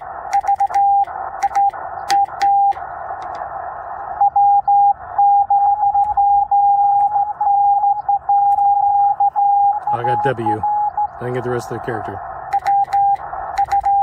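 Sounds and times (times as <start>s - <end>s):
morse code tone: 0.0s - 2.8s, 4.2s - 11.6s, 12.4s - 14.0s
radio band hiss: 0.0s - 7.4s, 9.6s - 13.9s.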